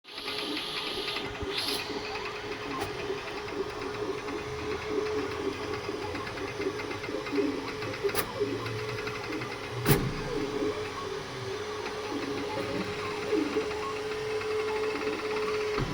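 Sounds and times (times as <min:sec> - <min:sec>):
printer motors buzzing: 0:00.1 - 0:15.9
printer sharp clicks: 0:00.2 - 0:15.9.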